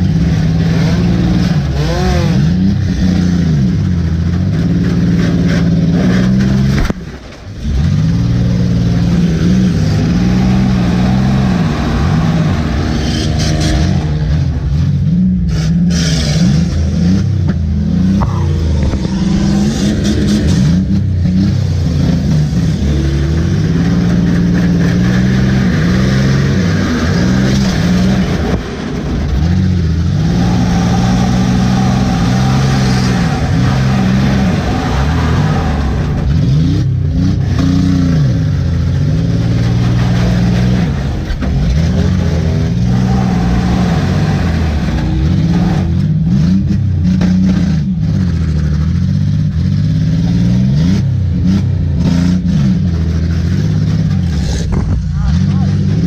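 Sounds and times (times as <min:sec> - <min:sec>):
car engine revving hard: 0:00.0 - 0:06.9, 0:07.6 - 0:56.0.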